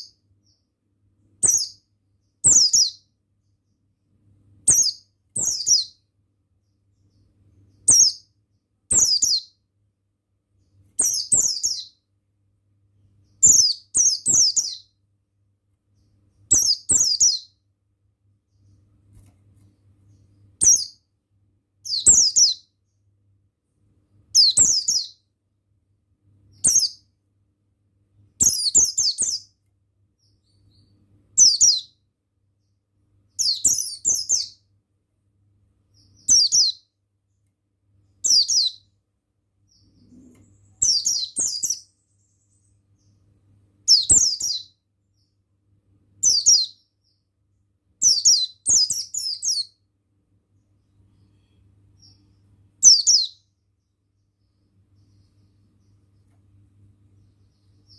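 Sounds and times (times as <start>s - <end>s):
bird twittering song: 0.0s - 9.7s, 10.5s - 12.1s, 13.0s - 15.1s, 15.8s - 21.1s, 21.8s - 23.2s, 24.1s - 25.3s, 26.4s - 27.2s, 28.3s - 34.7s, 35.8s - 39.0s, 39.6s - 45.4s, 46.2s - 49.8s, 50.5s - 57.9s.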